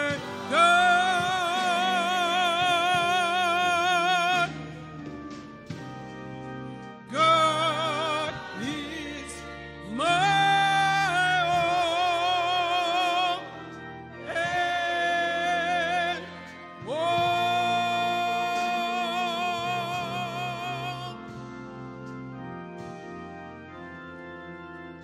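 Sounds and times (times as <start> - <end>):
gospel singing with vibrato: 0.0 - 24.2
low organ chords: 0.0 - 25.0.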